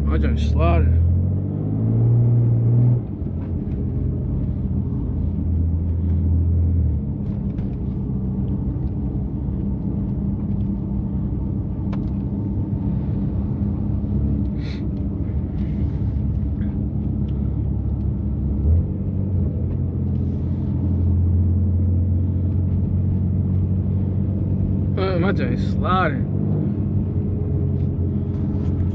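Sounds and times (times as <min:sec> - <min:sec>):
car engine droning: 0:00.0 - 0:28.9
road and tyre noise: 0:00.0 - 0:28.9.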